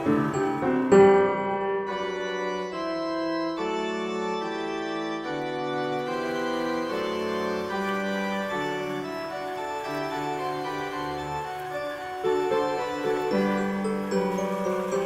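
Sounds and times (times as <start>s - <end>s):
organ-like keyboard chords: 0.0s - 15.0s.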